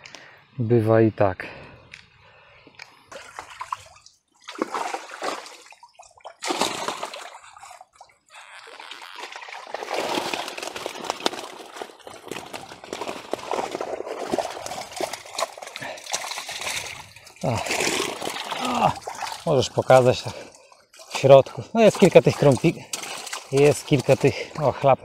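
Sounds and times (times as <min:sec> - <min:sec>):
water pouring and splashing: 0:03.1 - 0:24.9.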